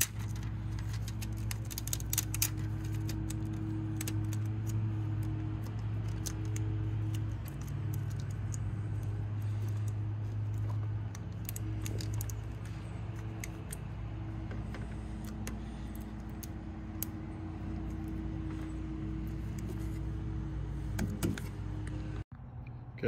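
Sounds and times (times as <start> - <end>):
light clicks and rustles of hands: 0.0 - 20.1
steady low hum: 0.0 - 23.0.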